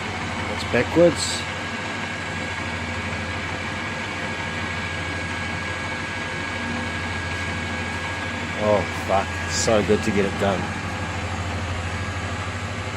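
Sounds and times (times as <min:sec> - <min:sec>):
high whine: 0:00.0 - 0:12.9
lathe motor humming: 0:00.0 - 0:12.9.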